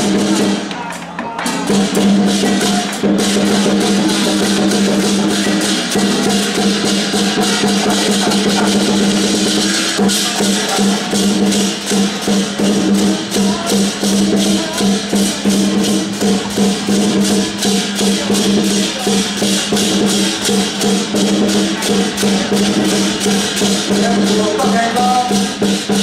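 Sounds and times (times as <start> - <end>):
big drum beating: 0.0 - 26.0
cymbals crashing: 0.0 - 26.0.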